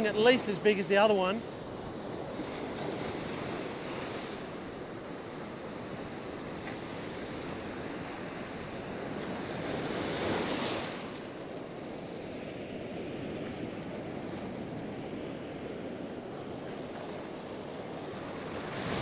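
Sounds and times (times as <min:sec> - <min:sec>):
ocean surf breaking: 0:00.0 - 0:19.0.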